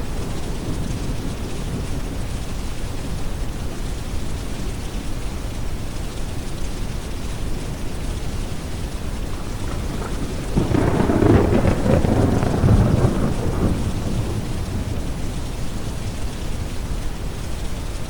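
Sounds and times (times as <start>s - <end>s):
rolling thunder: 0.0s - 4.5s, 7.0s - 18.0s
steady rain: 0.0s - 18.0s.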